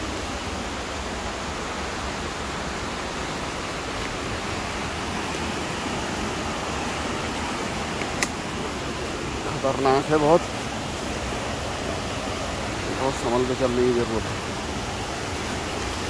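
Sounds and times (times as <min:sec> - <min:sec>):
rushing mountain stream: 0:00.0 - 0:16.0.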